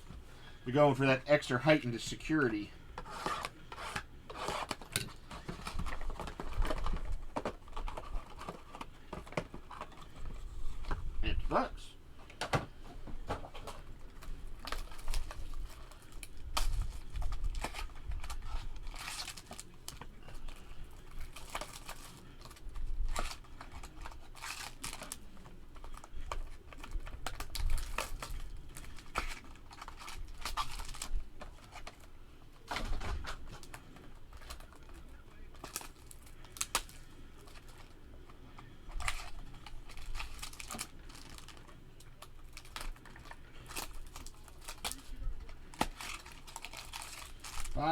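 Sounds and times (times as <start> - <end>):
plastic wrap and cardboard crinkling: 0.0 - 11.7, 13.0 - 47.9
cardboard tearing: 3.0 - 10.2, 14.1 - 38.0, 38.9 - 47.9.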